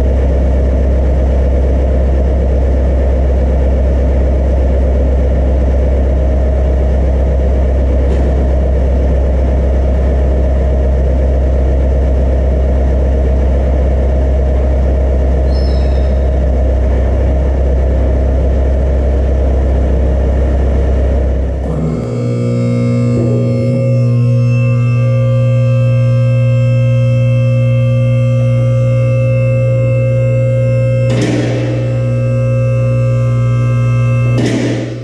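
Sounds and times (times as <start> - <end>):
heavy engine droning: 0.0 - 35.0.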